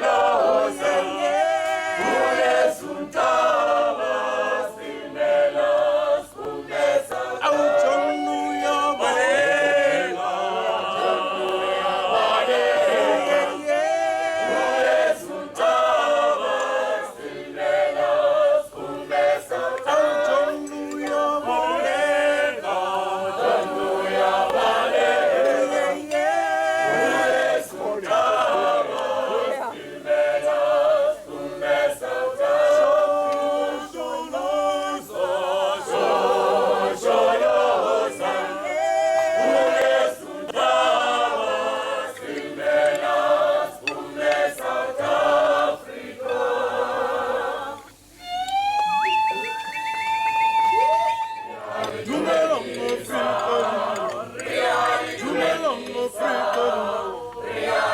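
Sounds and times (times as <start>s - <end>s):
choir singing a cappella: 0.0s - 57.9s.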